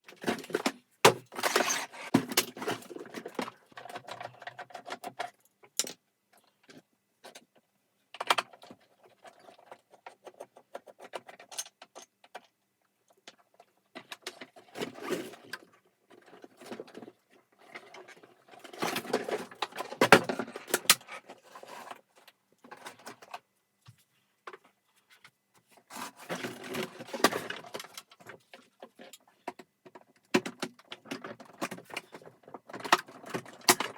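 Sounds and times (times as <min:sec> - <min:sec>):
plastic and metal parts clattering: 0:00.1 - 0:12.5, 0:13.2 - 0:33.9.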